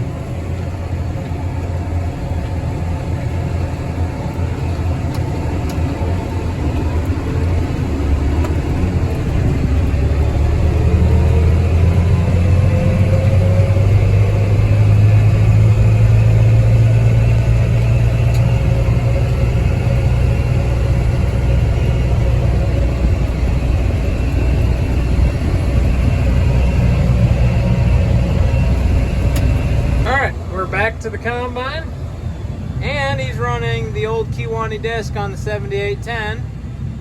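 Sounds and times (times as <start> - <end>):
tractor diesel engine droning: 0.0 - 37.0.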